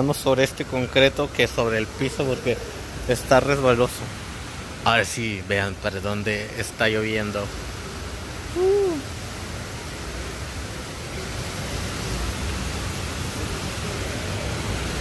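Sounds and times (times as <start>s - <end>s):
rain falling steadily: 0.0s - 15.0s.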